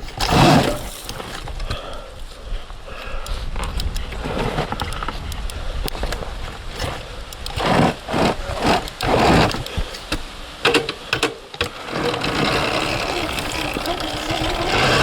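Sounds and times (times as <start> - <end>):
dirt bike chassis rattling: 0.0 - 2.1, 3.3 - 15.0.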